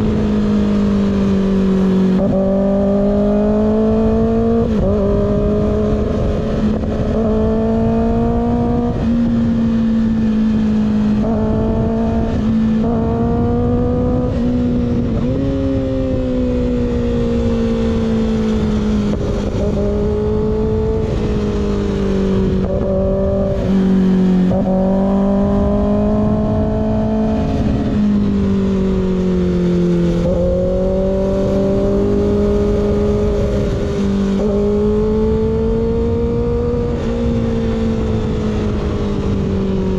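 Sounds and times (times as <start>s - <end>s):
motorcycle engine at mid revs: 0.0s - 39.9s.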